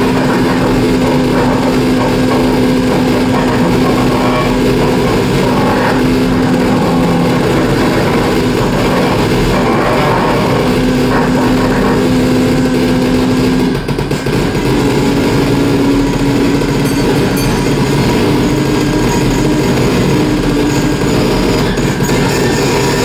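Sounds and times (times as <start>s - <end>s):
distorted saxophone drone: 0.0s - 23.0s.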